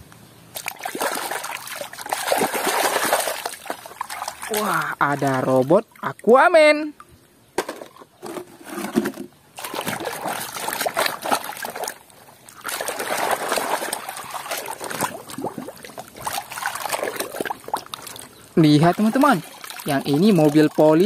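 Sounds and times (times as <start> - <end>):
water sloshing and splashing: 0.5 - 6.7, 7.6 - 21.0.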